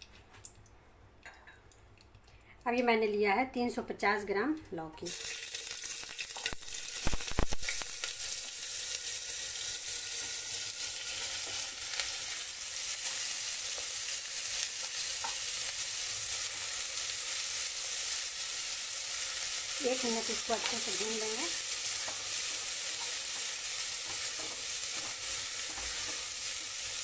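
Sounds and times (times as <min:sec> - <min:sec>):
vegetables sizzling in ghee: 0:05.0 - 0:27.0.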